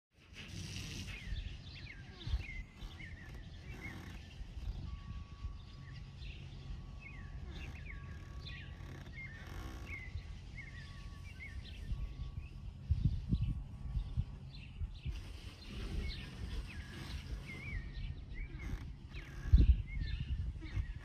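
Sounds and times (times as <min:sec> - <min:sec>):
songbirds chirping: 0:00.2 - 0:21.0.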